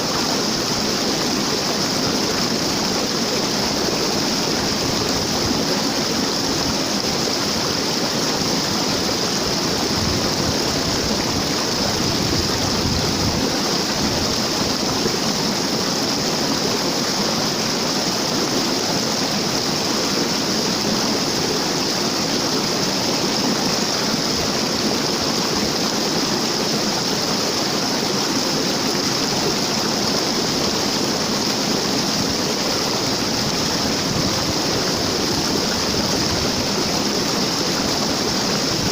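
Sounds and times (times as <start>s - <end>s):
waterfall: 0.0s - 38.9s.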